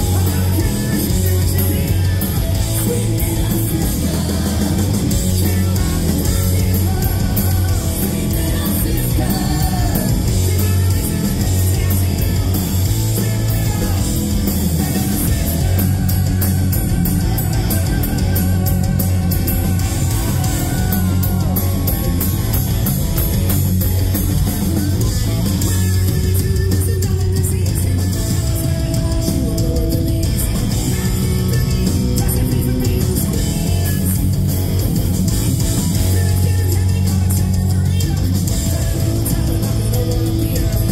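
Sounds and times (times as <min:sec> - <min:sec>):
person singing: 0:00.0 - 0:22.8, 0:25.0 - 0:34.4, 0:35.6 - 0:40.9
live rock band playing: 0:00.0 - 0:40.9.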